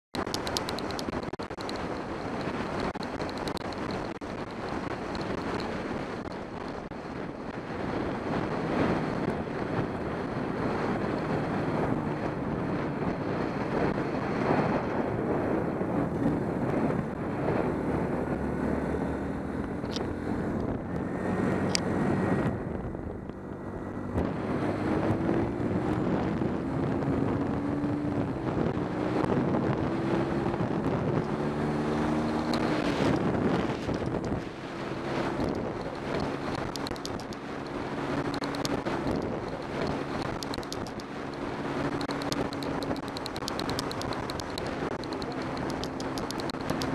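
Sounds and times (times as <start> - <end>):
motorcycle engine accelerating: 0.2 - 46.9
wind rushing over microphone: 0.2 - 46.9.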